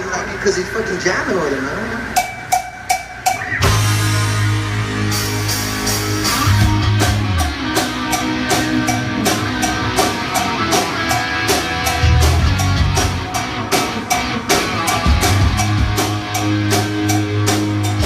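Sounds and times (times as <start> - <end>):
drum kit hits: 2.1 - 18.0
bass guitar: 2.8 - 18.0
electric guitar: 3.2 - 18.0.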